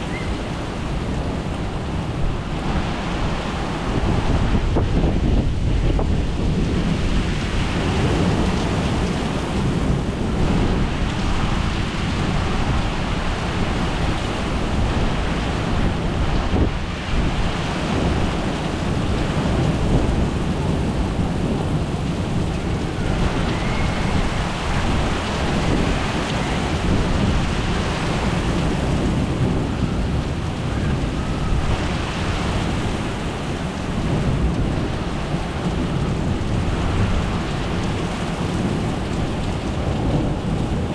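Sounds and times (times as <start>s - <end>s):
low rumble of thunder: 0.0s - 40.9s
rain falling: 0.0s - 40.9s.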